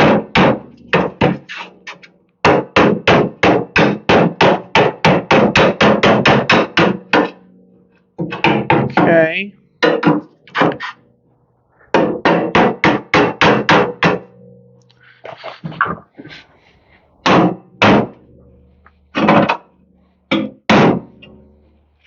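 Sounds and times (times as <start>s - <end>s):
hammer striking sheet metal: 0.0s - 11.0s, 11.9s - 14.6s, 17.2s - 21.8s.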